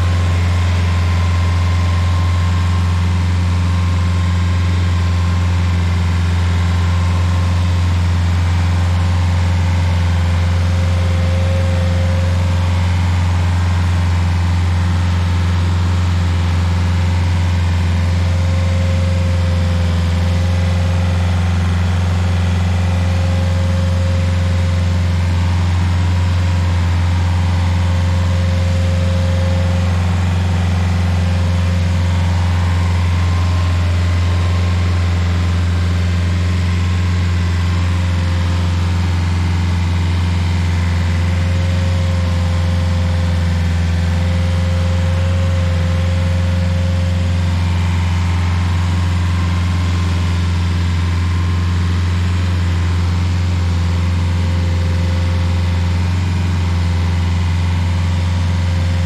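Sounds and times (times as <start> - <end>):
stump grinder droning: 0.0 - 59.0.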